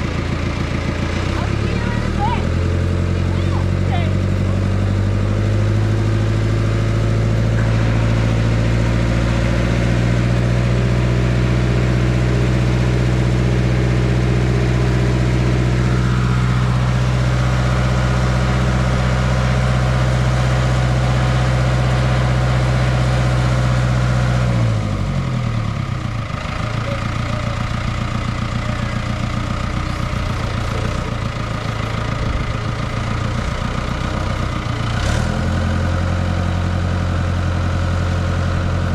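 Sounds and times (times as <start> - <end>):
large engine running: 0.0 - 38.9.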